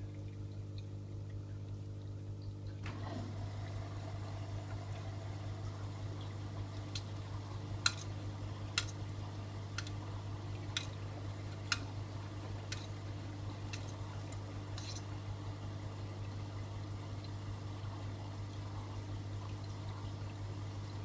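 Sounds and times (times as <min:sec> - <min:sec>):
washing machine low hum: 0:00.0 - 0:21.0
water running into washing machine: 0:02.8 - 0:21.0.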